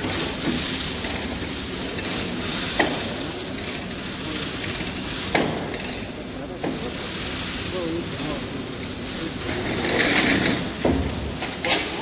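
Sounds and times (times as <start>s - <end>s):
hissing workshop noise: 0.0s - 12.0s.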